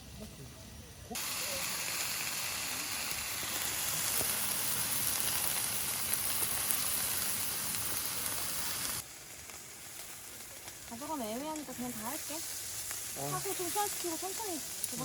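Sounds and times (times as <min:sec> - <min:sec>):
meat sizzling in hot pan: 0:01.2 - 0:15.0.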